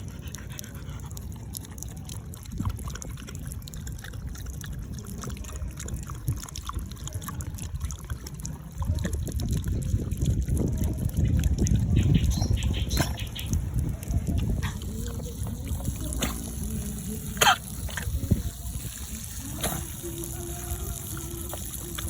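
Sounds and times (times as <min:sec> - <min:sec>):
dog lapping water: 0:00.0 - 0:22.0.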